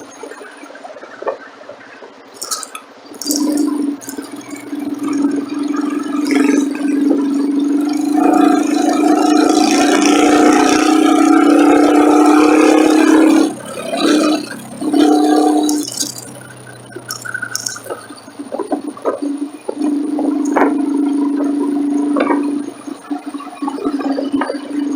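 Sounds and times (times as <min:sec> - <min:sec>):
road and wind noise: 0:00.0 - 0:24.9
motorcycle engine running: 0:02.4 - 0:24.9.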